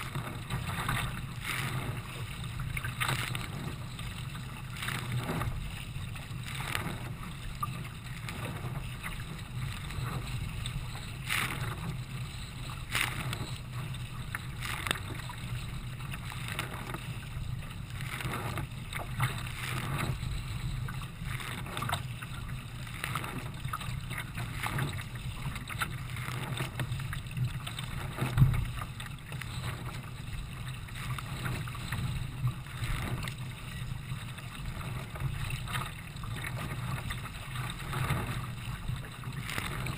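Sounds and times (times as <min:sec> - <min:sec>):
paddle stroke splashes: 0:00.0 - 0:39.9
water slapping against kayak: 0:00.0 - 0:39.9.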